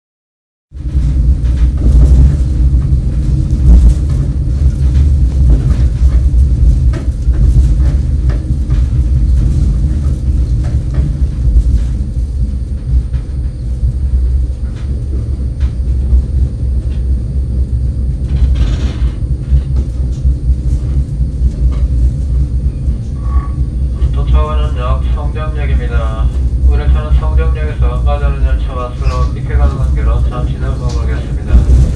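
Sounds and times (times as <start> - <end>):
train wheels rumbling on rails: 0.7 - 31.9.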